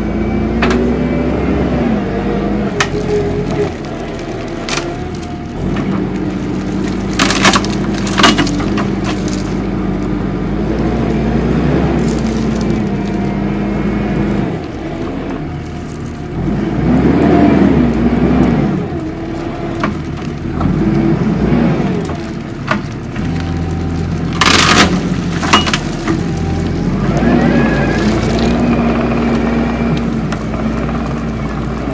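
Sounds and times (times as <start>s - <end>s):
diesel engine running: 0.0s - 31.9s
tree shear cracking sapling stems: 2.4s - 31.9s.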